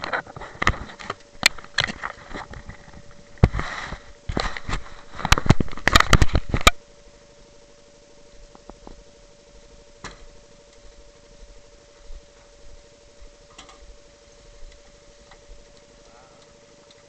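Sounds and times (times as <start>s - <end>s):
faint electrical whine: 0.0s - 17.0s.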